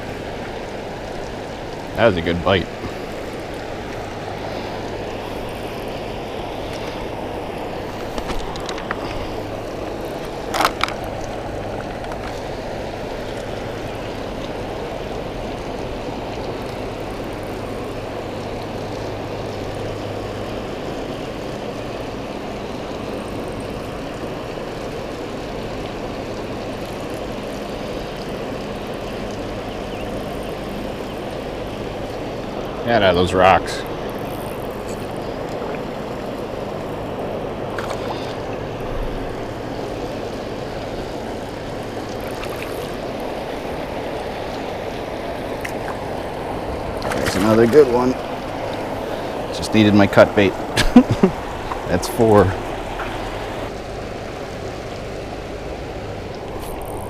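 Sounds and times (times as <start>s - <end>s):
water rushing over a spillway: 0.0s - 34.1s, 35.0s - 56.6s
low hum: 0.0s - 57.0s.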